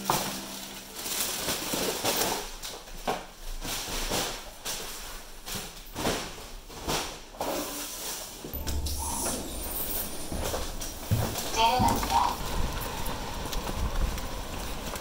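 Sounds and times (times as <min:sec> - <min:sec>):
plastic bag crinkling: 0:00.0 - 0:05.9, 0:08.5 - 0:15.0.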